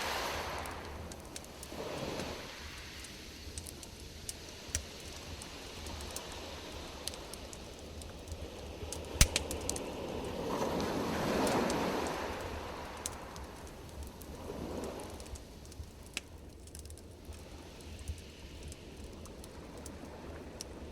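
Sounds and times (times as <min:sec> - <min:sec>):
campfire crackling and popping: 0:00.0 - 0:20.9.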